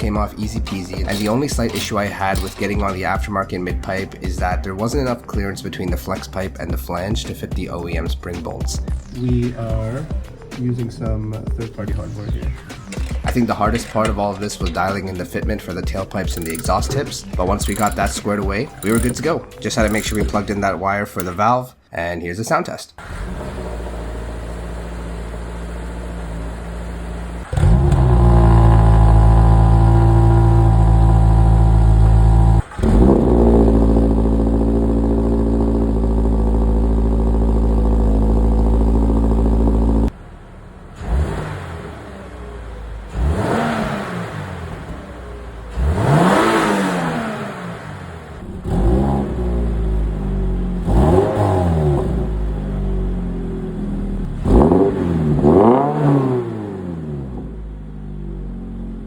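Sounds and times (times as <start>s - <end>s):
car engine revving: 0.0s - 21.4s, 23.0s - 59.0s.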